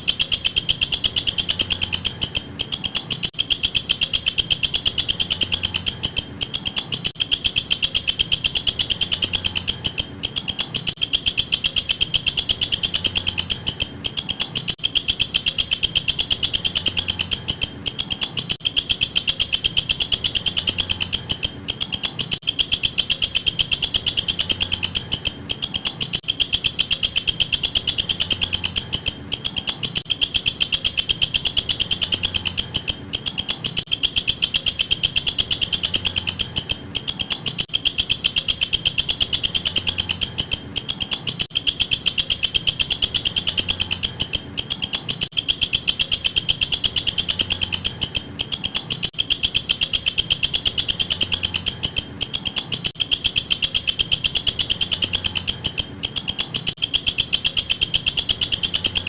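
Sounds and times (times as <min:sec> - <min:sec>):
katydid chirping: 0:00.0 - 0:59.0.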